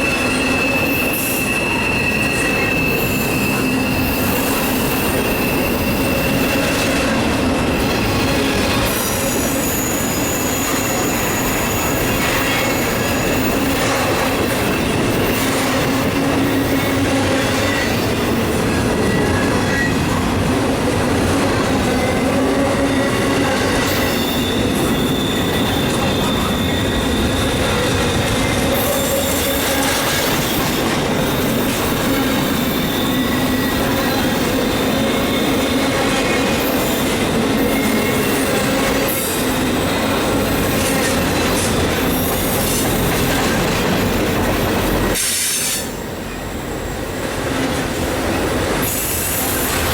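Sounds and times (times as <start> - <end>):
wheels squealing: 0.0 - 46.9
train wheels rumbling on rails: 0.0 - 49.9.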